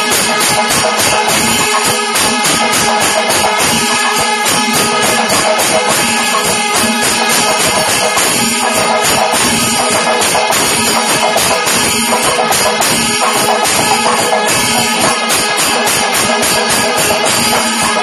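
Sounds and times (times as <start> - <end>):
clashing cymbals: 0.0 - 18.0
rapid dense drumming: 0.0 - 18.0.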